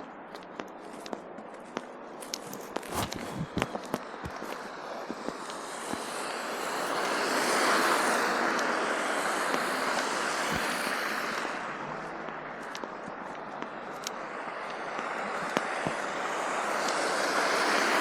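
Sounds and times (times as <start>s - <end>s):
vehicle tyres hissing on snow: 2.2s - 18.0s.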